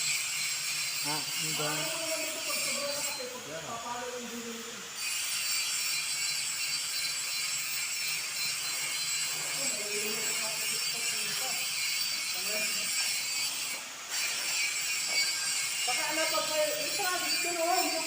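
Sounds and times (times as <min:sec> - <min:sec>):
high-pitched hiss: 0:00.0 - 0:18.0
thin high tones: 0:00.8 - 0:18.0.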